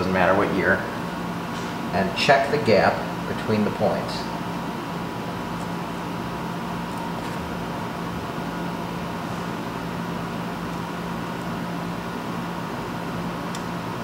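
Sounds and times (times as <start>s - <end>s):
steady mechanical hum with hiss: 0.0s - 14.0s.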